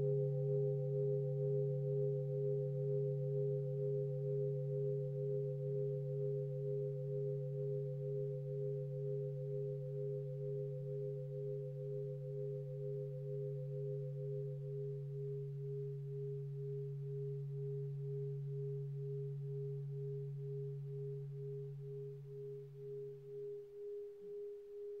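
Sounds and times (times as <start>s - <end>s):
wavering ringing tone: 0.0s - 25.0s.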